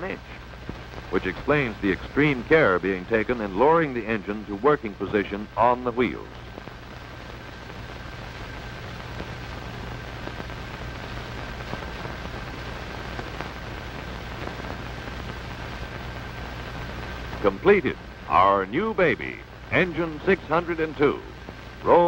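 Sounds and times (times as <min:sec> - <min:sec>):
film soundtrack hiss and crackle: 0:00.0 - 0:22.0
steady low hum: 0:00.0 - 0:22.0.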